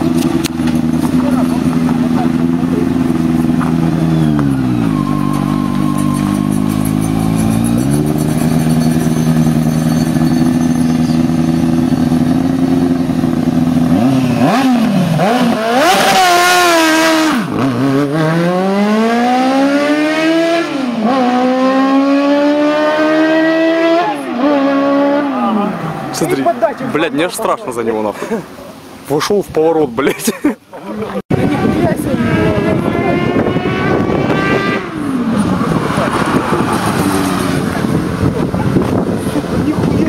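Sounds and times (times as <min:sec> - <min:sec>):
car engine revving: 0:00.0 - 0:27.1, 0:31.4 - 0:40.0.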